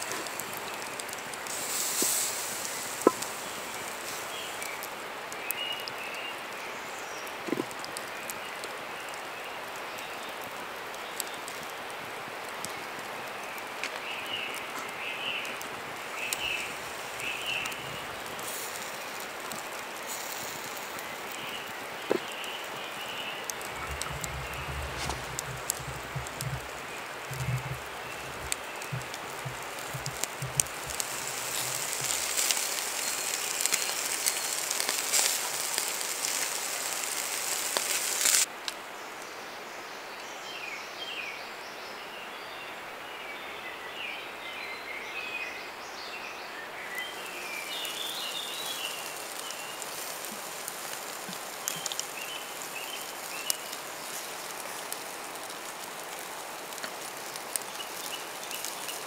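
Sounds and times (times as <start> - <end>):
birds chirping: 0.0 - 38.5, 43.4 - 59.0
food sizzling over campfire: 0.0 - 41.3, 45.3 - 59.0
faint hiss: 0.0 - 59.0.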